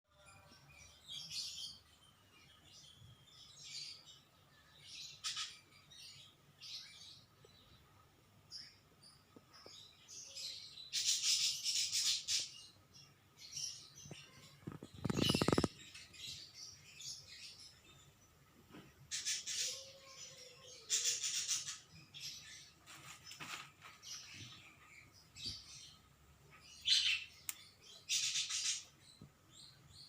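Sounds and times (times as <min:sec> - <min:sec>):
birds chirping: 0:00.1 - 0:30.0.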